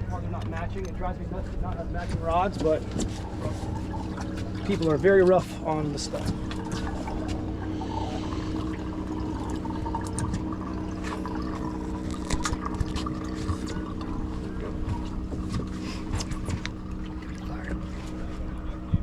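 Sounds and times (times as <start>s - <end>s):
boat machinery humming: 0.0s - 19.0s
water noise: 1.8s - 19.0s.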